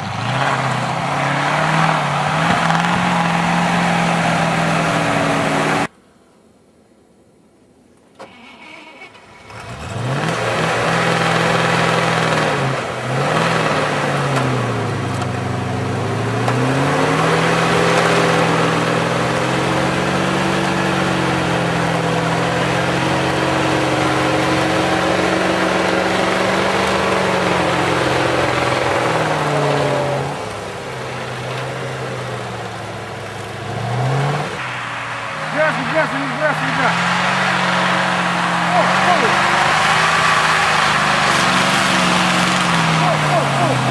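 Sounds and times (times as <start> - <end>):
truck engine revving: 0.0 - 5.9, 9.3 - 43.9.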